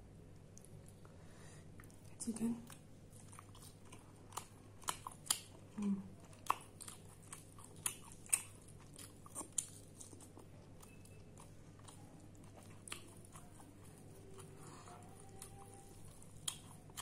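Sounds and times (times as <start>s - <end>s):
chewing food: 1.8s - 17.0s.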